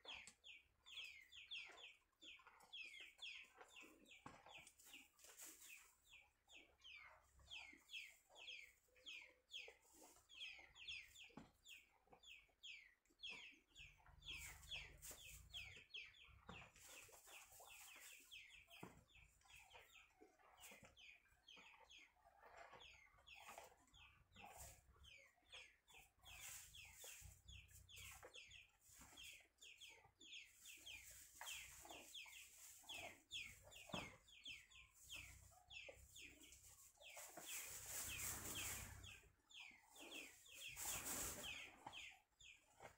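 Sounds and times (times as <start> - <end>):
chicken clucks: 0.0 - 42.9
chicks peeping: 0.0 - 42.9.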